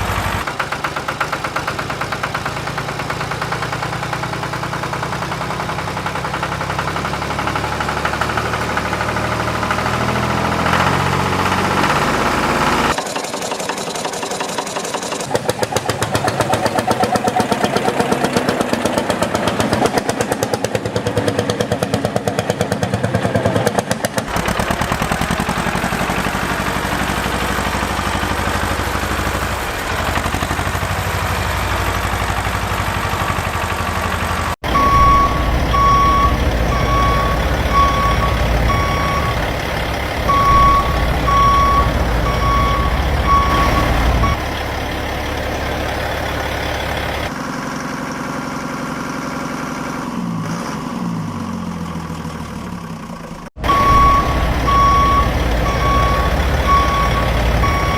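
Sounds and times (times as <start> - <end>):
tractor engine running: 0.0 - 50.2, 51.3 - 57.9.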